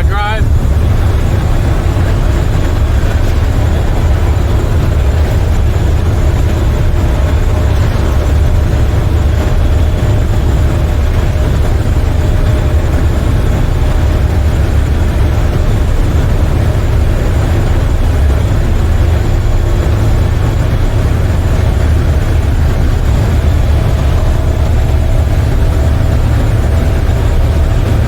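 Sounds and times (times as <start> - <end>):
truck diesel engine and road noise: 0.0 - 28.0.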